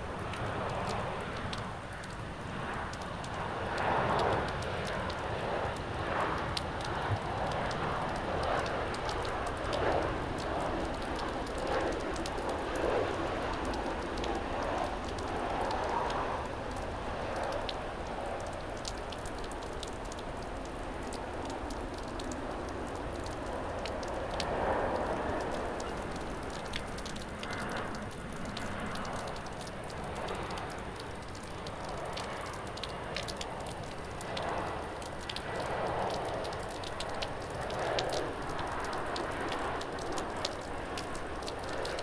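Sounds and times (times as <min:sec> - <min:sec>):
heavy rain falling: 0:00.0 - 0:42.0
raindrops ticking on a surface: 0:00.0 - 0:42.0.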